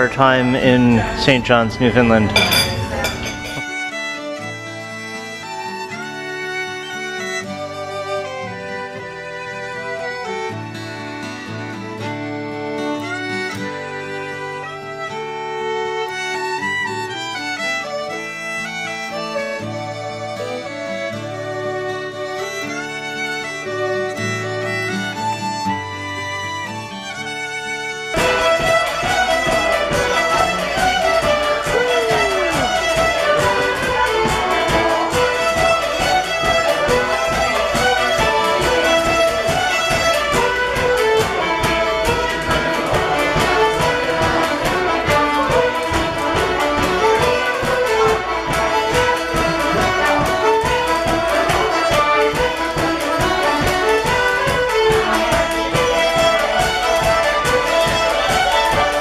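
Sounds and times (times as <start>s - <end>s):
several fiddles playing a tune: 0.0s - 59.0s.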